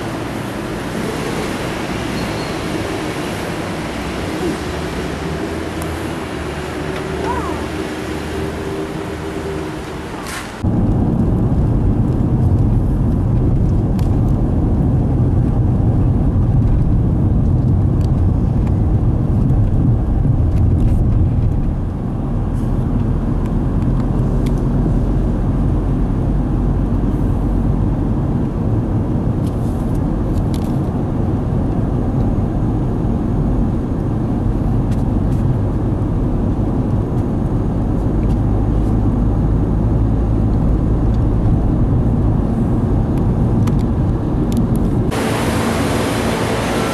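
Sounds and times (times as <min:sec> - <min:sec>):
car tyre and engine rumble: 0:00.0 - 0:46.9.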